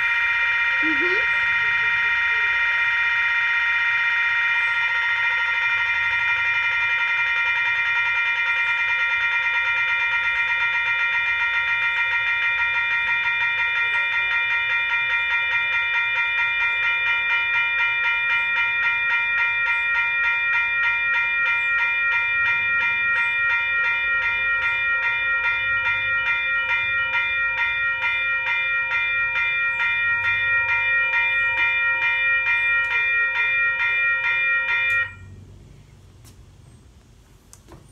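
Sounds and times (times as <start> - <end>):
railroad crossing bell ringing: 0.0 - 35.6.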